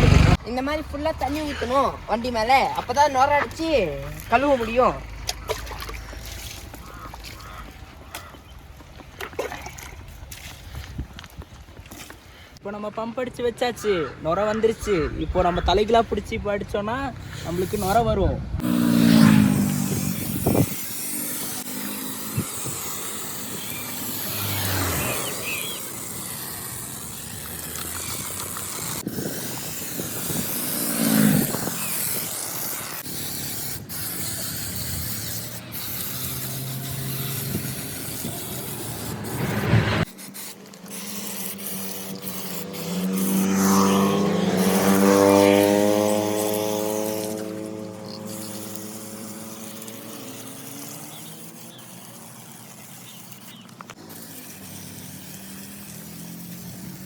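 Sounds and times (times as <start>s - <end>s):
pressure sprayer hissing: 0.0s - 0.4s, 1.1s - 8.4s, 18.6s - 57.0s.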